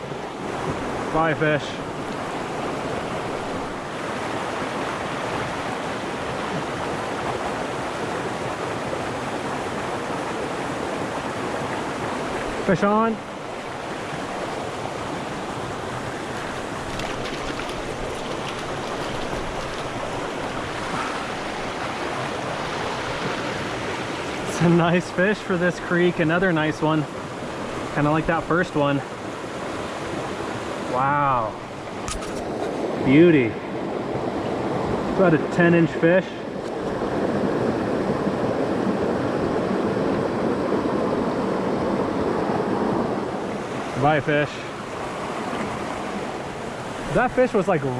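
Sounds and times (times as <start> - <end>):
stream rushing: 0.0 - 47.9.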